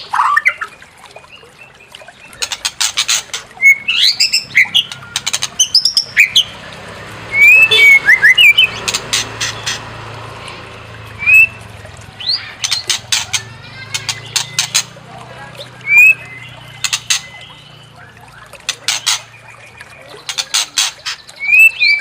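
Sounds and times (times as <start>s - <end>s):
bird singing: 0.0s - 10.0s, 10.8s - 22.0s.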